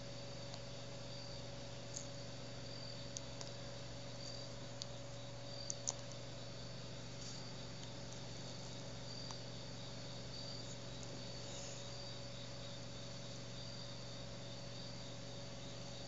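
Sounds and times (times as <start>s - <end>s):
faint hum and hiss: 0.0s - 16.0s.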